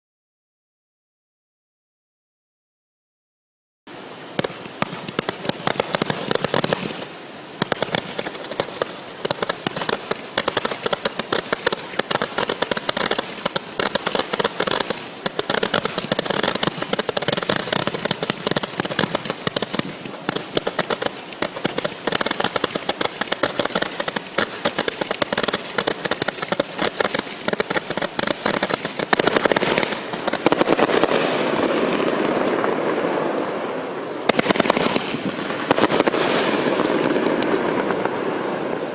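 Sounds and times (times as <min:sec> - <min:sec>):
firework barrage popping: 0:04.0 - 0:38.9.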